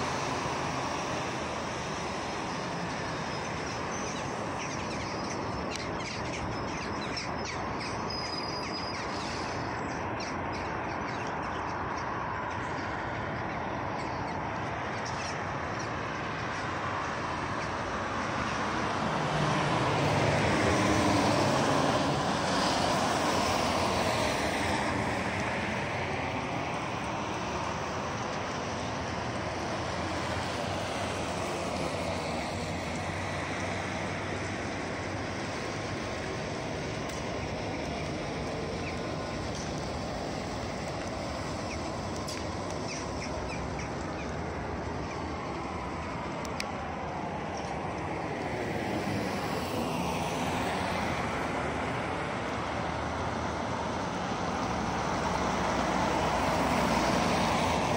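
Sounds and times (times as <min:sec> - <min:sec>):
steady road traffic: 0:00.0 - 0:57.9.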